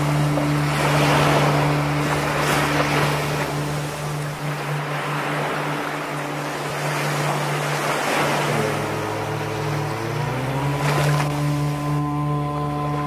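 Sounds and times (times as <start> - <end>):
gliding high tones: 0.0 - 13.0
low drone: 0.0 - 13.0
surf-like wash of noise: 0.0 - 13.0.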